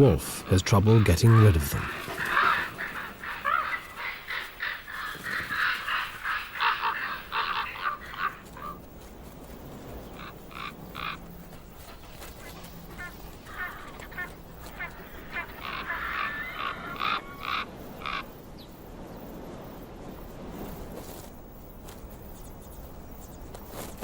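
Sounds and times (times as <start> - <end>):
ravens croaking: 0.0 - 19.8.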